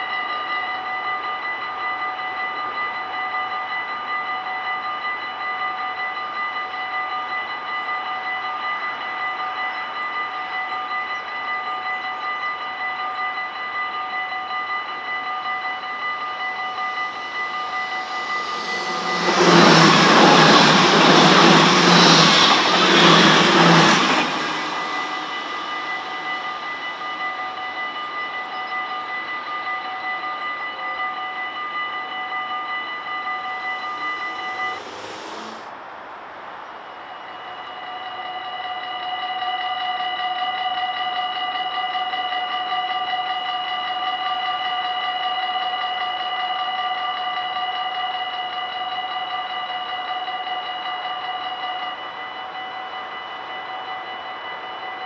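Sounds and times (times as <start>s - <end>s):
level-crossing warning bell: 0.0s - 35.8s, 36.8s - 55.0s
train passing at speed: 0.0s - 55.0s.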